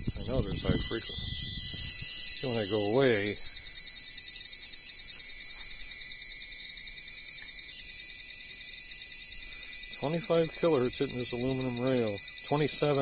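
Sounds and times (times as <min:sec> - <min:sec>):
faint whining tones: 0:00.0 - 0:13.0
high-pitched electrical hiss: 0:00.0 - 0:13.0.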